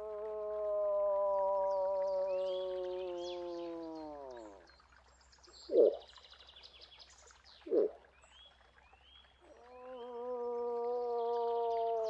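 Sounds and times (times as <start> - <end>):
faint birds chirping: 1.7 - 12.0.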